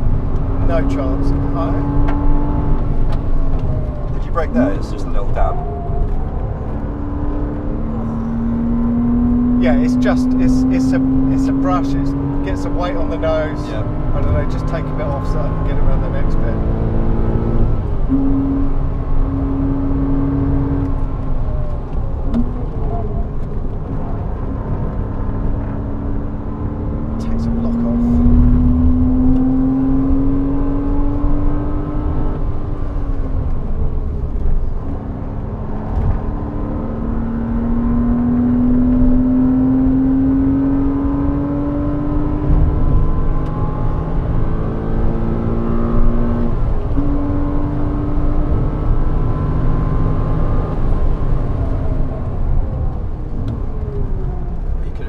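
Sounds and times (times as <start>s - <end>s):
car engine revving: 0.0s - 55.0s
road and tyre rumble: 0.0s - 55.0s.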